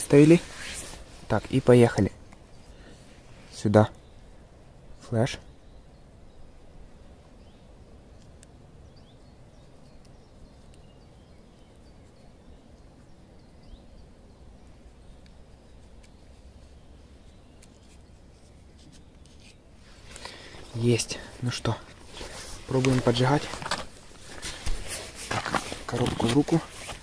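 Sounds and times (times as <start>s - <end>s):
faint bird chirps: 2.4s - 25.2s.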